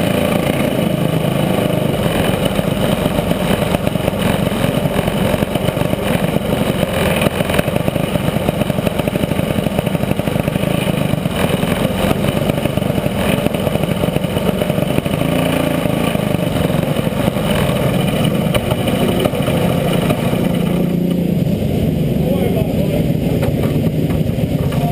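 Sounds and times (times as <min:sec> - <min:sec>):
kart engine running at low speed: 0:00.0 - 0:24.9.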